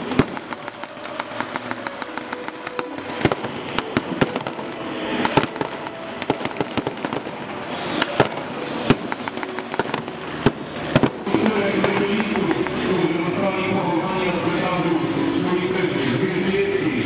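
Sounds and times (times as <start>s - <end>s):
background hubbub: 0.0s - 17.0s.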